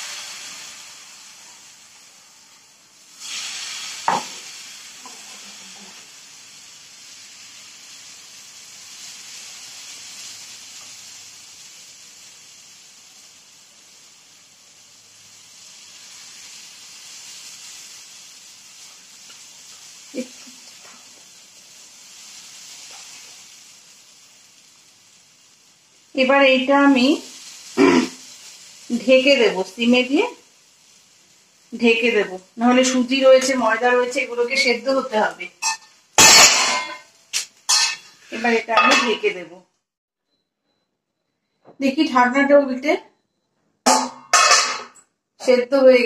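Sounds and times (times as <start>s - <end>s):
batter sizzling in a frying pan: 0.0s - 39.5s, 41.4s - 46.0s.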